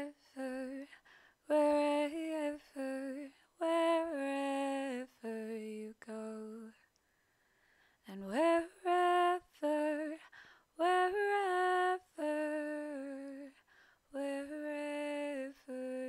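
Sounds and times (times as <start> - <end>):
woman singing unaccompanied: 0.0 - 6.9, 8.0 - 16.0.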